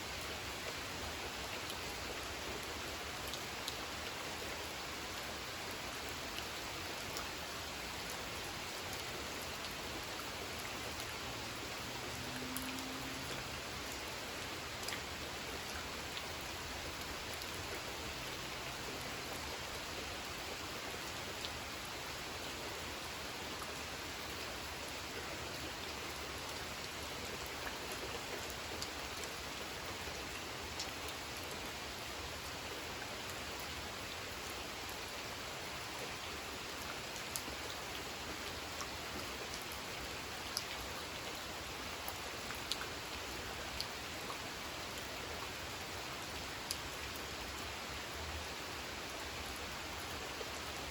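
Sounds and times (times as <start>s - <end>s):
rain falling on a pond: 0.0s - 50.9s.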